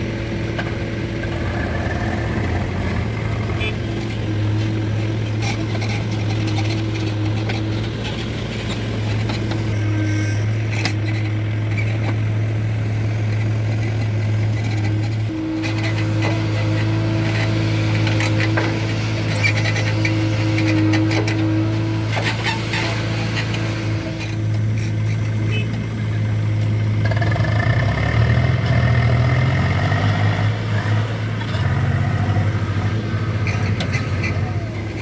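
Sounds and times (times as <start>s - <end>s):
backhoe diesel engine running: 0.0s - 35.0s
tractor engine revving: 0.0s - 35.0s.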